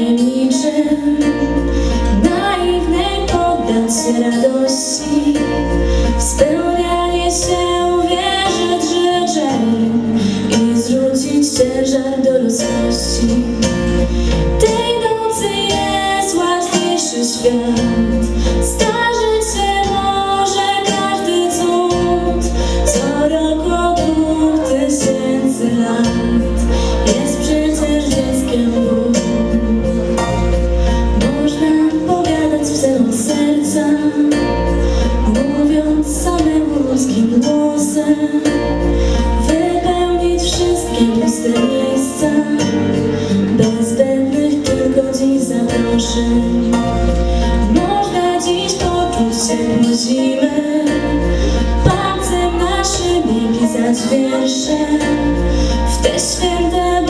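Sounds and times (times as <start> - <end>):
girl singing into microphone: 0.0 - 30.6, 31.2 - 57.0
instrumental accompaniment with bass: 0.0 - 57.0.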